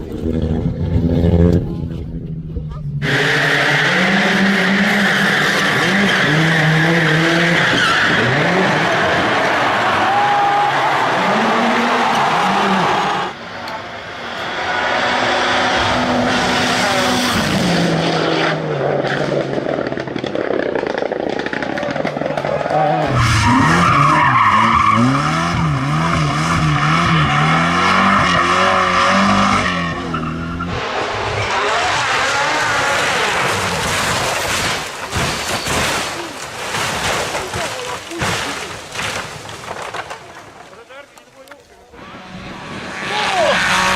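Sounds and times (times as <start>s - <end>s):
rally car engines at full throttle: 0.0s - 43.9s.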